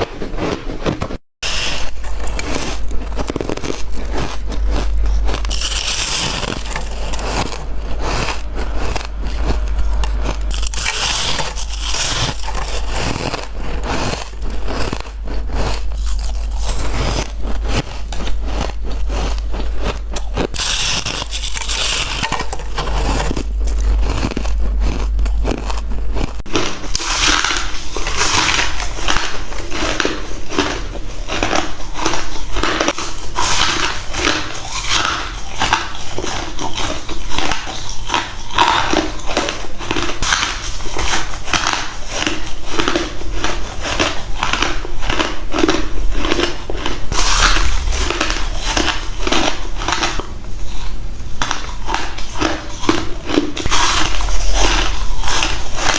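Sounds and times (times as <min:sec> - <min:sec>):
ice cubes crunching being chewed: 0:00.0 - 0:55.9.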